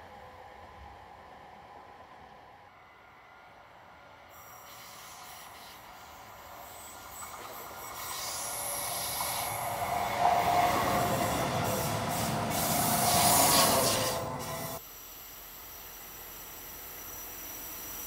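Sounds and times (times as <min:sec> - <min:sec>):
train wheel and rail noise: 0:00.0 - 0:18.0.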